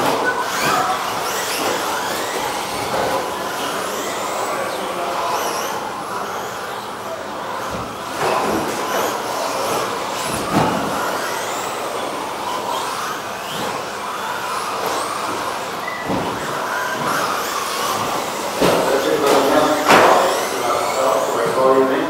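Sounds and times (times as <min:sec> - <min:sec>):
electric rc truck motors whining: 0:00.0 - 0:22.0.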